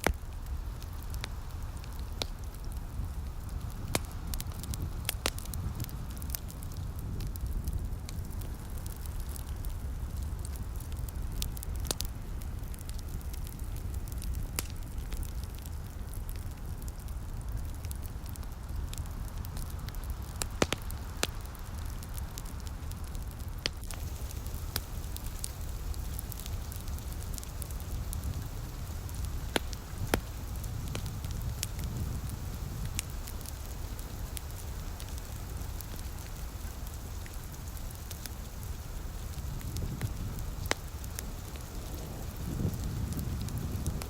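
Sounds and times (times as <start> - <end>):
light rain hiss: 0.0 - 44.0
wood fire crackling and popping: 0.0 - 44.0.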